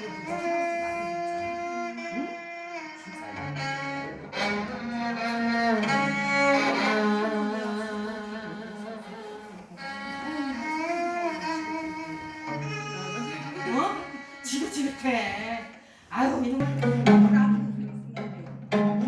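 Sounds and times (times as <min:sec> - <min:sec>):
bowed strings playing: 0:00.0 - 0:15.6, 0:16.6 - 0:19.0.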